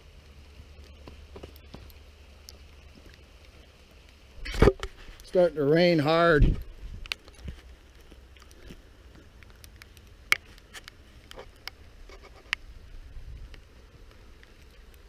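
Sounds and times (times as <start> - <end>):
raindrops tapping: 0.2 - 15.0.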